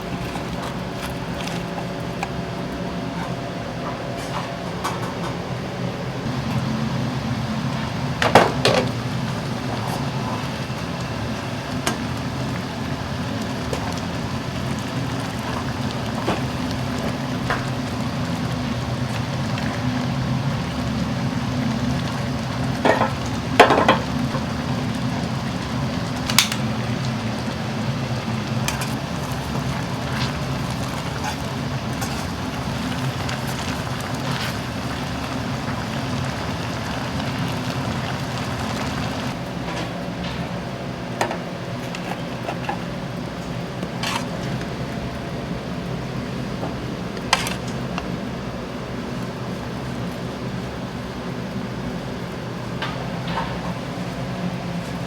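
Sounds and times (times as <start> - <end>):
steady low hum: 0.0 - 55.0
faint sizzle of frying: 5.8 - 55.0.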